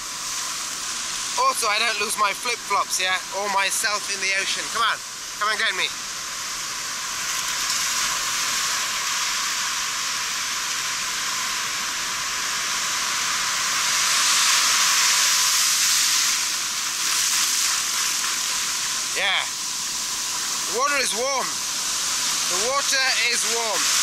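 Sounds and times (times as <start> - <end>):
sea surf washing up beach: 0.0 - 24.0.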